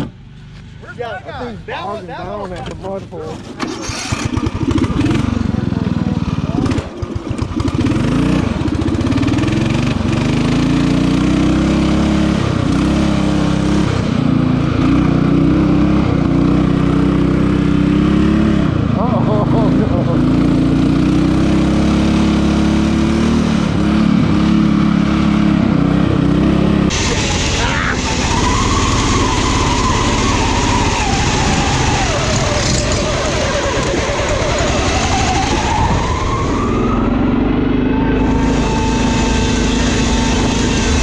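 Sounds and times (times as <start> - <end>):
riding lawn mower engines revving: 0.0 - 41.0.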